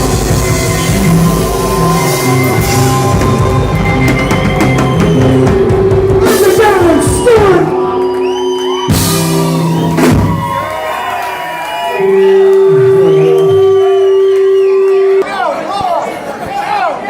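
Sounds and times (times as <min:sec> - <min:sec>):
live band playing amplified music: 0:00.0 - 0:15.2.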